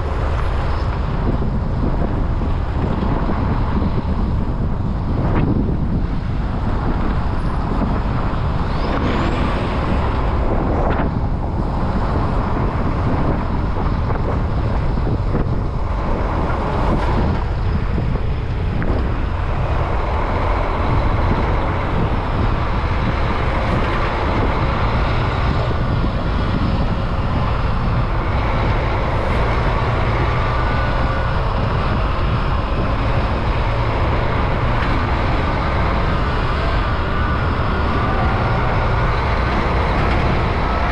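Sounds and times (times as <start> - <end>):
road traffic passing: 0.0 - 40.9.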